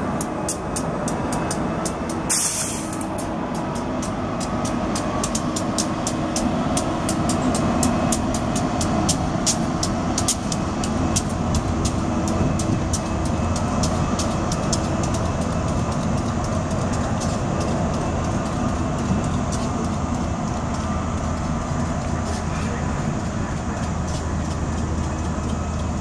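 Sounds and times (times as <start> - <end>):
electric train rumbling past: 0.0 - 26.0
wheels clicking over rail: 0.0 - 26.0.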